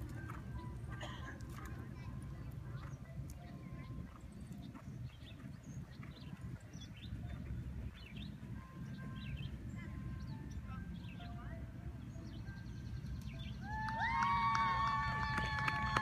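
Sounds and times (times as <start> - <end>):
steady low rumble: 0.0 - 13.6
small birds chirping: 0.0 - 14.0.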